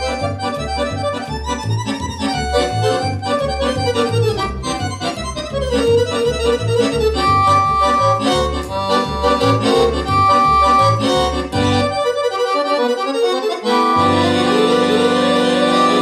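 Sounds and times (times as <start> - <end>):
accordion playing a tune: 0.0 - 16.0.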